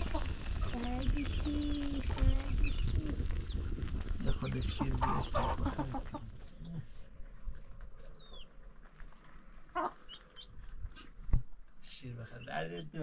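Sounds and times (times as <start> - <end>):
chickens clucking: 0.0 - 11.3.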